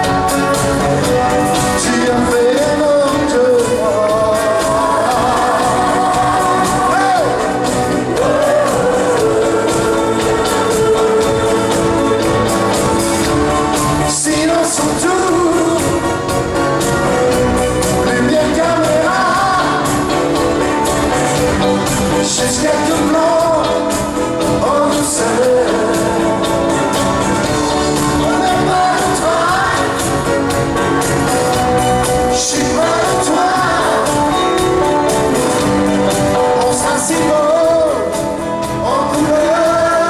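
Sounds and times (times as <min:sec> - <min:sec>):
live pop band playing a ballad: 0:00.0 - 0:40.0
person singing: 0:00.0 - 0:40.0.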